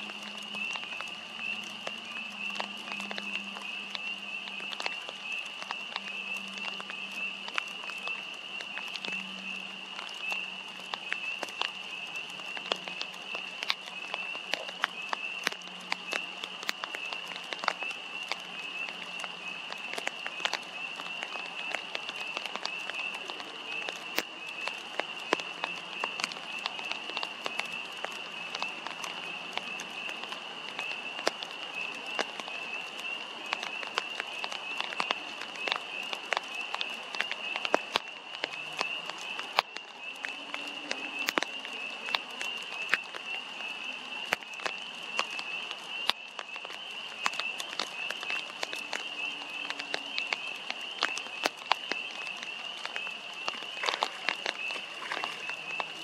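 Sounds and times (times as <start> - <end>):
frogs trilling: 0.0 - 56.0
raindrops dripping: 0.0 - 56.0.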